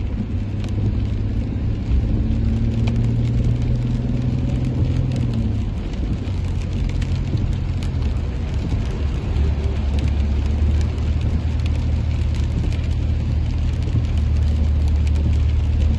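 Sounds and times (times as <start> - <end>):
rain patter: 0.0 - 15.9.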